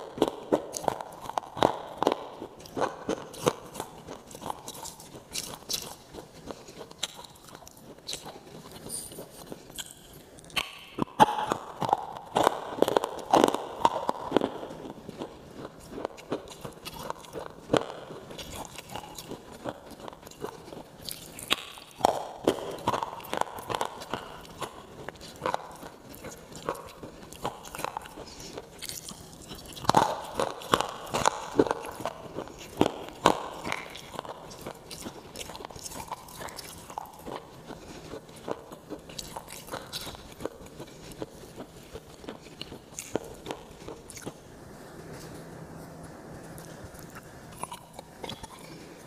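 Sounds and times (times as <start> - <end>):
mouth clicks: 0.0 - 44.4, 46.5 - 49.0
crunchy food chewing: 0.0 - 49.0.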